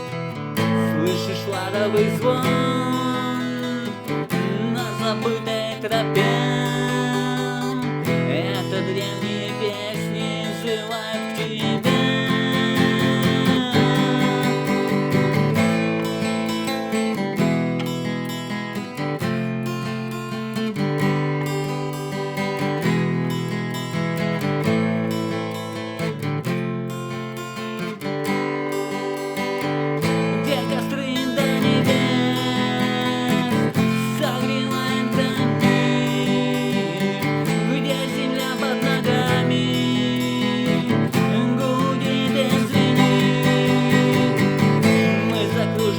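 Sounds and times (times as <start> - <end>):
instrumental music: 0.0 - 45.9
strummed acoustic guitar: 0.0 - 45.9.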